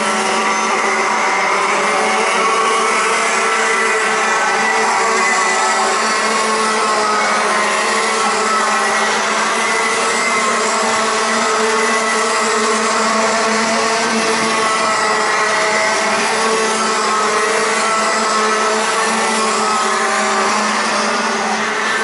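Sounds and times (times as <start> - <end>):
racing kart engines: 0.0 - 22.0.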